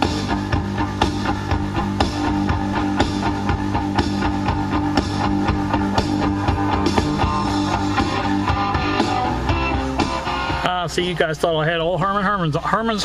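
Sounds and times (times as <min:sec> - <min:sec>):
guitar music with steady beat: 0:00.0 - 0:13.0.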